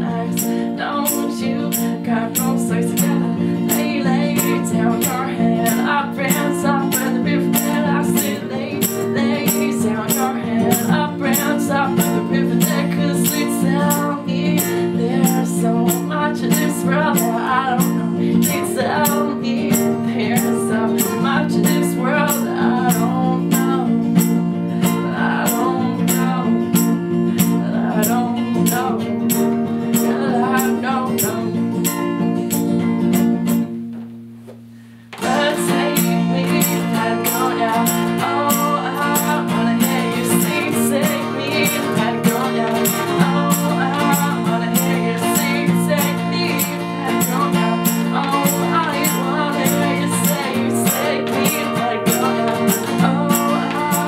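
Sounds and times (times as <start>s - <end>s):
tambourine jingles: 0.0s - 33.8s, 35.1s - 54.0s
acoustic guitar playing: 0.0s - 54.0s.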